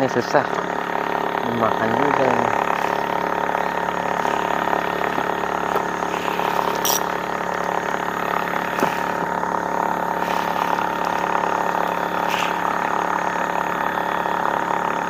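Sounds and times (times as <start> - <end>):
small boat engine humming: 0.0 - 15.0.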